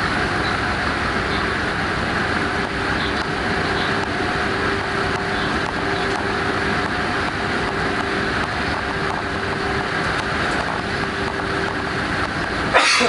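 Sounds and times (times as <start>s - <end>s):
mid-pitched drive hum: 0.0s - 12.8s
train running noise rumble: 0.0s - 13.0s.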